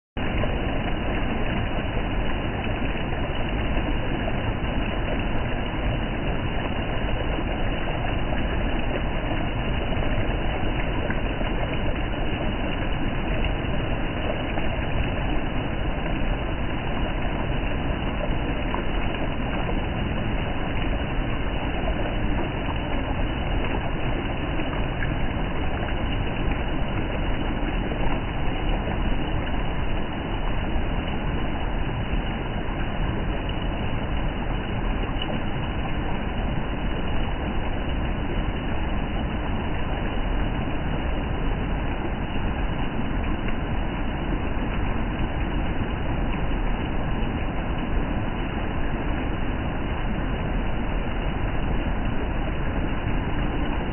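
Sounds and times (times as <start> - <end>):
waterfall pouring into pool: 0.2 - 53.9.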